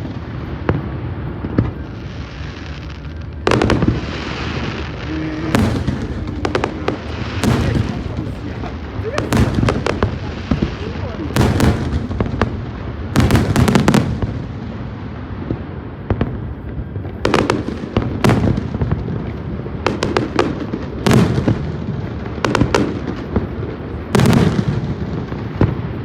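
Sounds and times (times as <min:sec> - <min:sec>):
firework crackling: 0:00.0 - 0:26.0
fireworks rumbling: 0:00.0 - 0:26.0
sharp firework bangs: 0:03.4 - 0:16.5, 0:17.1 - 0:23.5, 0:24.1 - 0:26.0.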